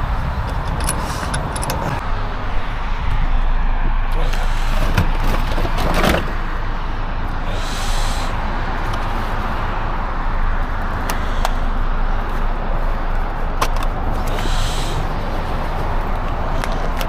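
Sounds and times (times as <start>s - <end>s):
vehicle and road rumble: 0.0s - 17.0s.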